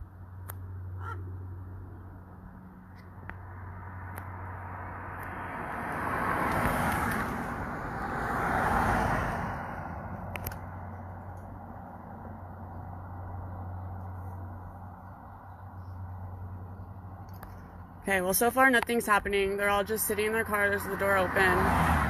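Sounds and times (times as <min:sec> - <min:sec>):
road vehicles passing: 0:00.0 - 0:22.0.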